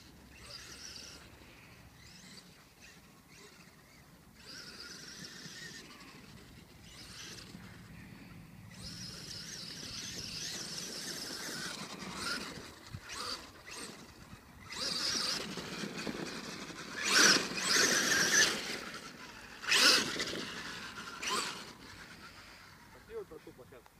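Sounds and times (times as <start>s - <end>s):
electric motor whine: 0.0s - 23.1s
rc truck rushing past: 0.0s - 23.6s.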